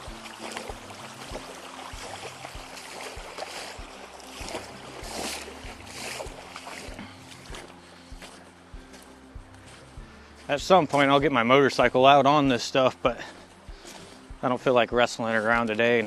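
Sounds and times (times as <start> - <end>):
footsteps splashing through water: 0.0 - 16.0.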